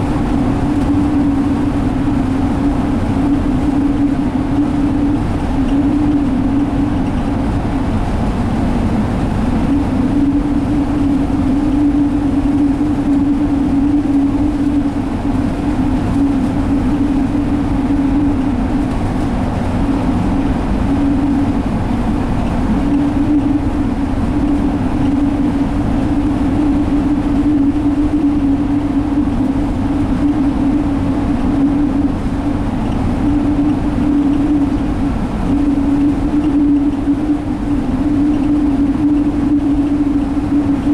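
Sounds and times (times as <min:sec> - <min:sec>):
bus engine drone: 0:00.0 - 0:40.9
road and tyre noise: 0:00.0 - 0:40.9.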